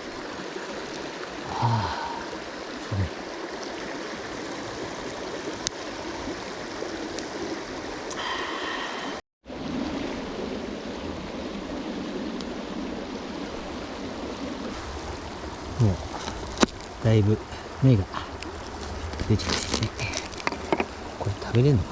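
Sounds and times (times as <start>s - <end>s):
river flowing over rocks: 0.0s - 9.2s, 9.8s - 21.9s.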